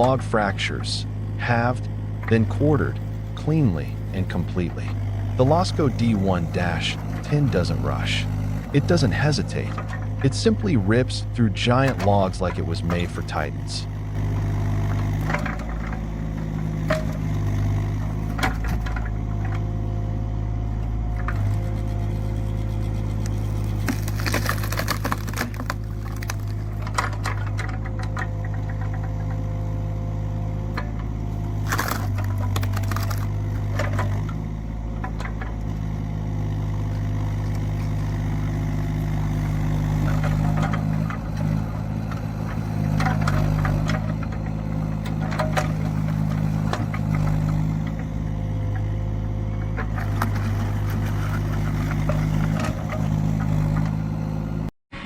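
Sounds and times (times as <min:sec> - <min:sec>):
wood cracking and splitting: 0:00.0 - 0:11.1, 0:11.7 - 0:19.7, 0:21.1 - 0:29.8, 0:30.8 - 0:54.2
log splitter engine running: 0:00.0 - 0:55.0.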